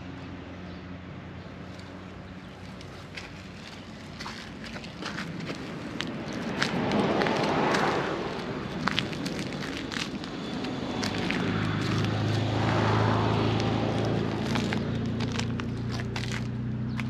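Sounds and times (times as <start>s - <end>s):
engine running: 1.0s - 17.0s.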